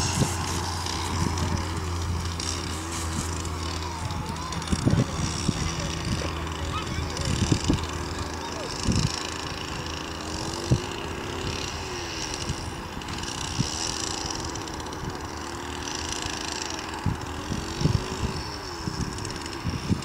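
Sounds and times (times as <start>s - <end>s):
motor running: 0.0s - 20.0s.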